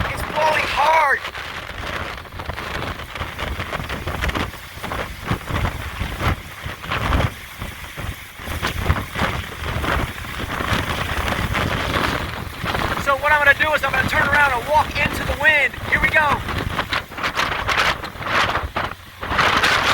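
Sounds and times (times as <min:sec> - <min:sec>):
heavy rain: 0:00.0 - 0:19.9
strong wind buffeting microphone: 0:00.0 - 0:19.9.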